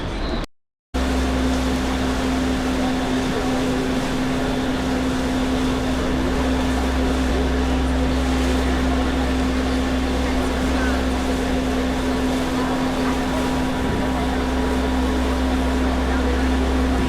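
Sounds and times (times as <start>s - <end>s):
faint chatter: 1.0s - 17.0s
ferry engine drone: 1.0s - 17.0s.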